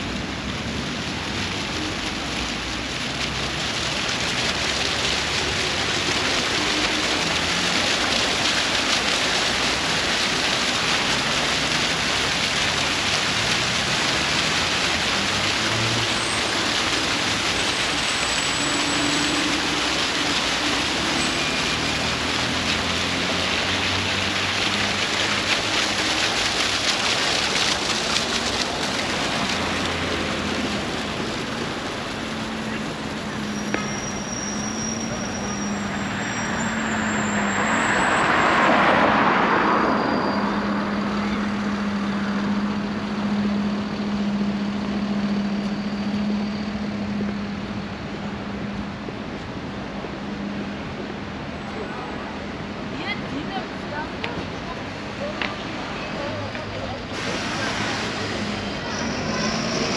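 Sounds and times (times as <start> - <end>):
fountain jets splashing: 0.0 - 59.9
road traffic rumbling: 0.0 - 59.9.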